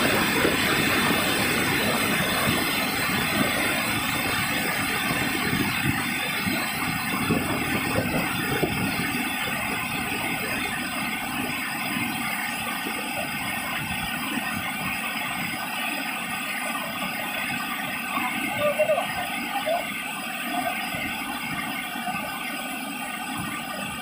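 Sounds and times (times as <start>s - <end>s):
water rushing down a weir: 0.0s - 24.0s.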